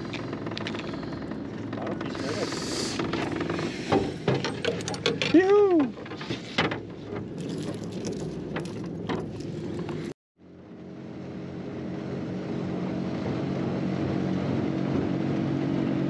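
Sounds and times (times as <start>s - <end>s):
motorboat engine drone: 0.0s - 5.3s, 6.1s - 16.0s.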